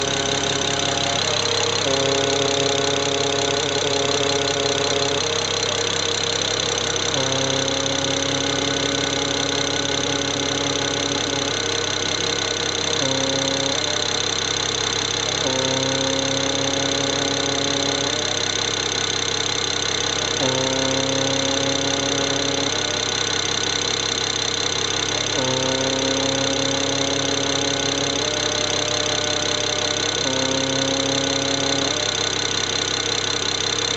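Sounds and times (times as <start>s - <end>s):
droning tone: 0.0s - 33.7s
car engine idling: 0.0s - 33.9s.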